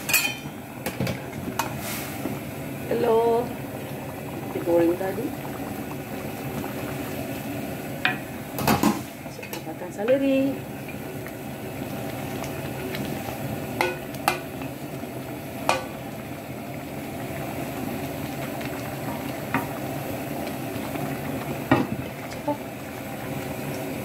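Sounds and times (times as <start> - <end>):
broth bubbling in a wok: 0.0 - 24.0.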